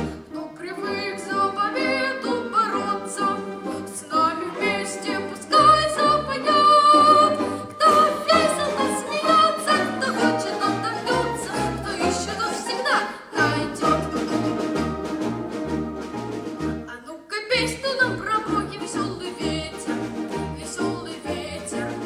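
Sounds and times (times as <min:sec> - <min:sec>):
person singing: 0:00.0 - 0:15.0, 0:16.8 - 0:22.0
folk instrument orchestra: 0:00.0 - 0:22.0.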